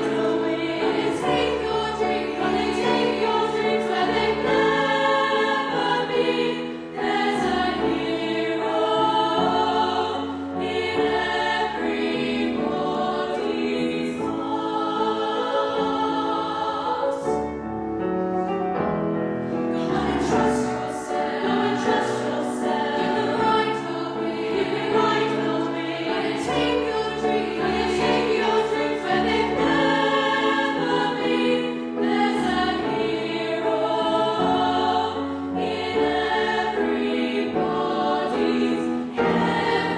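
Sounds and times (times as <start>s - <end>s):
youth choir singing: 0.0s - 17.5s, 19.6s - 39.9s
piano accompaniment: 0.0s - 39.9s.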